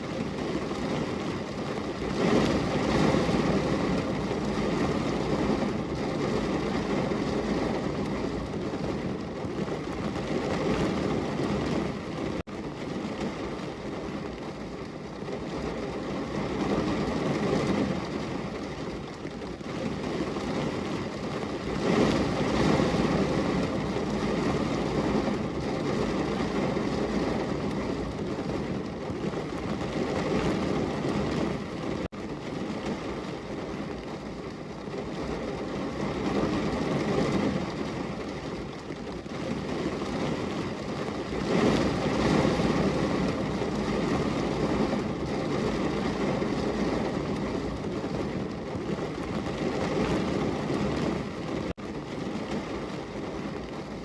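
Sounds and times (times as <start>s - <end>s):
heavy rain on a window: 0.0s - 54.0s.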